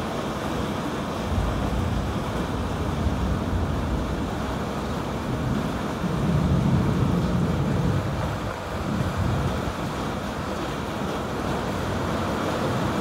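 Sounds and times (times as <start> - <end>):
thunder rumbling: 1.2 - 12.0.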